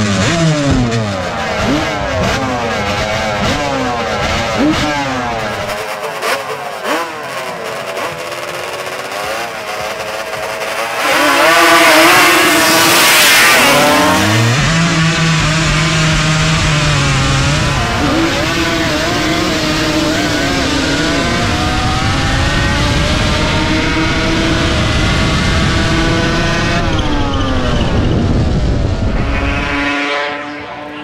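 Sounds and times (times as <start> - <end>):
quad engines revving: 0.0 - 31.0.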